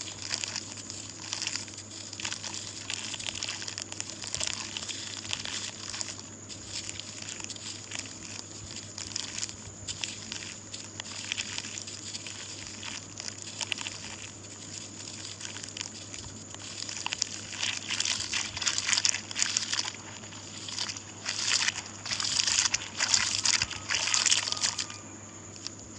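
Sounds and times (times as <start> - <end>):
charcoal ash crunching: 0.0 - 25.9.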